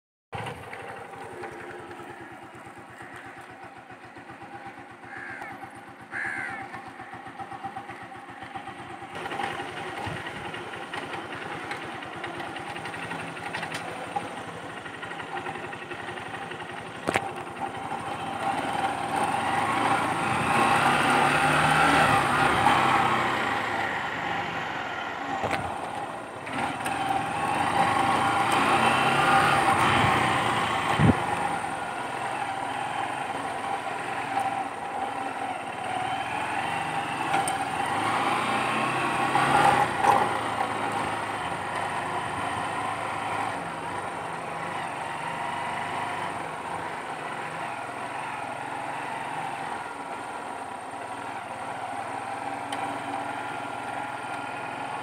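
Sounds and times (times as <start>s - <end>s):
motorcycle engine running: 0.4s - 55.0s.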